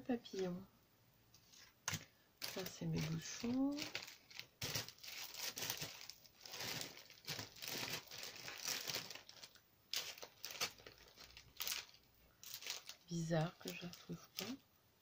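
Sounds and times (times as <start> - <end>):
hands rustling through supplies: 1.4 - 14.6.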